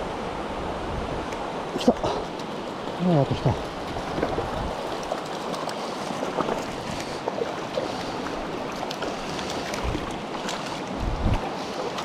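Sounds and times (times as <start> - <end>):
stream water rushing: 0.0 - 12.0
faint clicks and splashes: 2.3 - 12.0.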